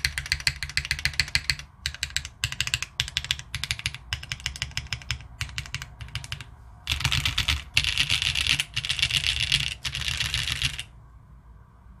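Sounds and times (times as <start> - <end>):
mechanical keyboard typing: 0.0 - 10.9.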